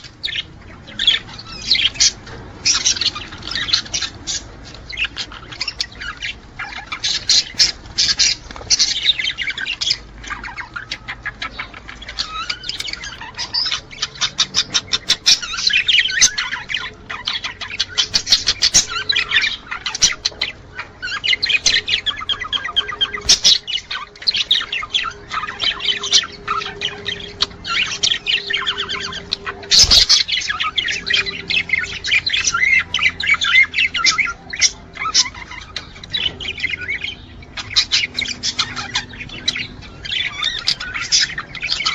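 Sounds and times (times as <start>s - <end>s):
budgerigars warbling and chattering: 0.0s - 41.9s.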